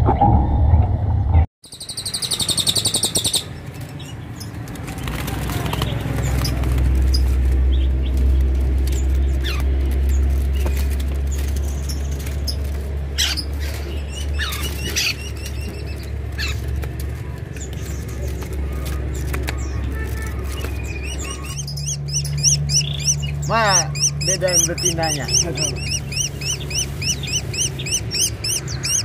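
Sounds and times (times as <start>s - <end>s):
small birds chirping: 1.6s - 29.0s
steady low rumble: 3.4s - 29.0s.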